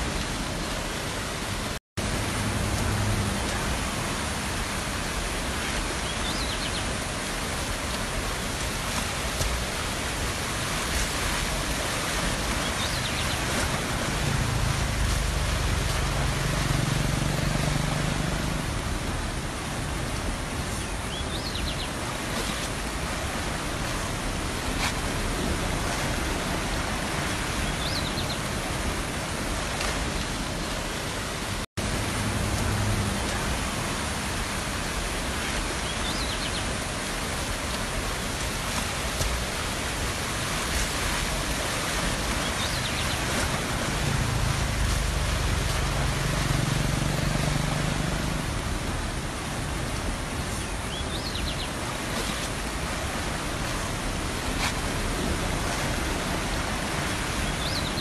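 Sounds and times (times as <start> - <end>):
stream rushing in flood: 0.0 - 58.0.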